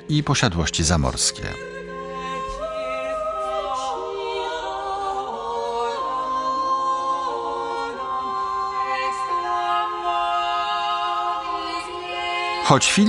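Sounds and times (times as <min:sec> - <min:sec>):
choir singing unaccompanied: 0:00.0 - 0:13.0.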